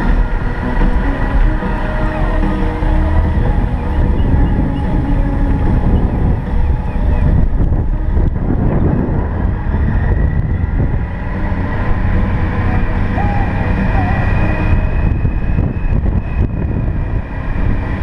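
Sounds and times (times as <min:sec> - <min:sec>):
vehicle engine running: 0:00.0 - 0:18.0
wind buffeting microphone: 0:00.0 - 0:18.0.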